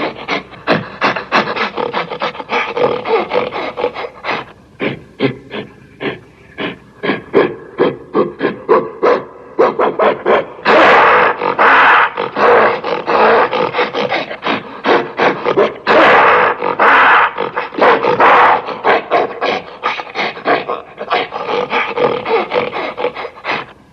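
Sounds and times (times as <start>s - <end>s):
gorilla roaring: 0.0s - 23.8s.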